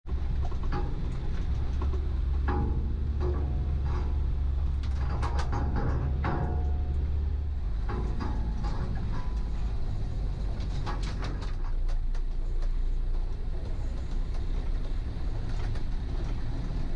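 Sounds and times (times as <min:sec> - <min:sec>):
engine running low: 0:00.1 - 0:16.9
vehicle knocks and rattles: 0:00.1 - 0:16.9.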